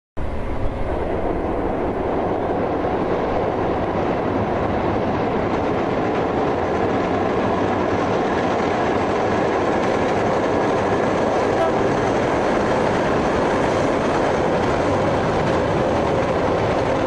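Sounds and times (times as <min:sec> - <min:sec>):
freight train running: 0:00.2 - 0:17.0.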